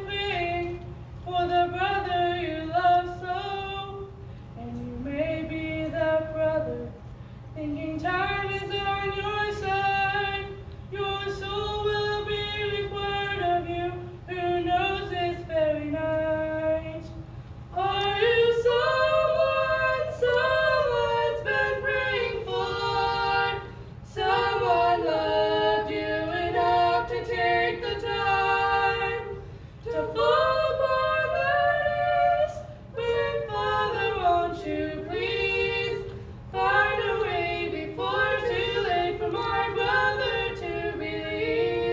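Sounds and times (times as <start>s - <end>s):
women singing in harmony: 0.0s - 7.0s, 7.6s - 41.9s.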